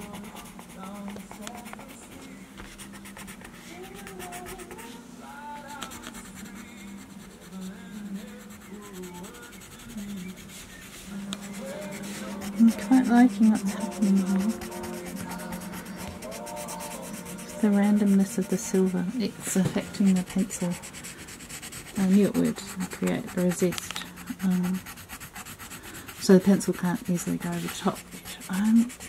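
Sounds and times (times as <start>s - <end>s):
pencil scratching on paper: 0.0s - 4.9s, 5.7s - 29.0s
quiet melody: 0.0s - 24.9s, 26.2s - 29.0s.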